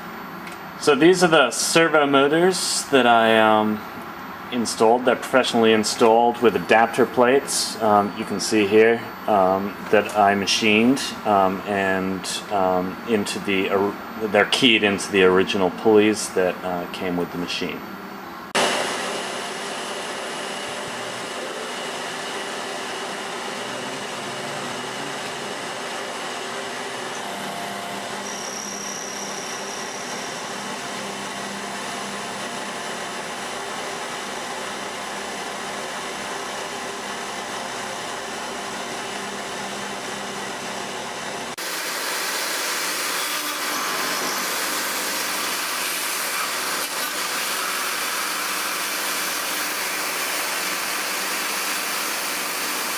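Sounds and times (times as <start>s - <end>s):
milling machine whirring: 0.0s - 52.9s.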